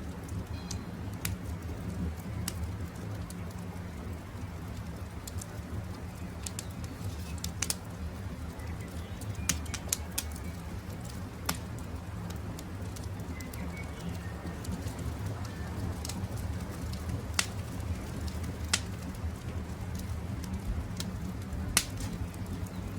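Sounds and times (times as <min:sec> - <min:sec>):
campfire crackling and popping: 0:00.0 - 0:22.9.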